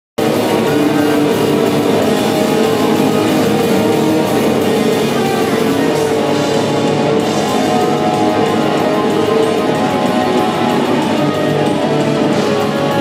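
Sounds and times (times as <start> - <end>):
live metal band playing: 0.2 - 13.0.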